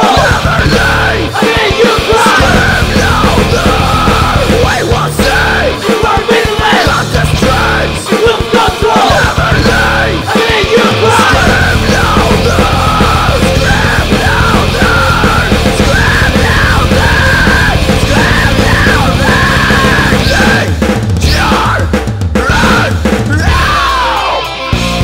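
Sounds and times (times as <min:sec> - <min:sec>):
person yelling vocals: 0:00.0 - 0:24.5
heavy rock band playing: 0:00.0 - 0:25.0.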